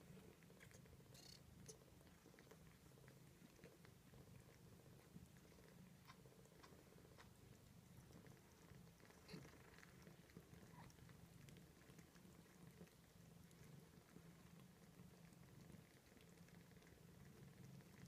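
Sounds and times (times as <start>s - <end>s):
cat purring: 0.0s - 18.0s
kittens clicking and rustling: 0.0s - 18.0s.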